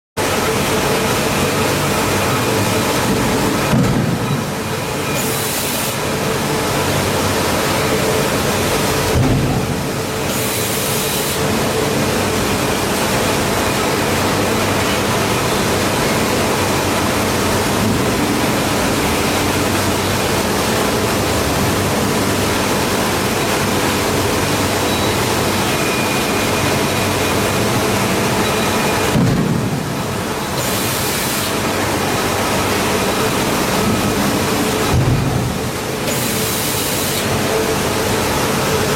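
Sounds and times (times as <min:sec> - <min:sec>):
loud rushing noise: 0:01.1 - 0:24.7, 0:26.9 - 0:36.3.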